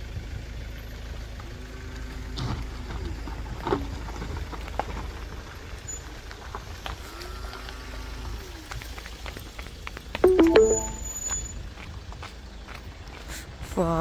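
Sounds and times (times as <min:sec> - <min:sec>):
car engine and tyre rumble: 0:00.0 - 0:10.2, 0:11.0 - 0:14.0.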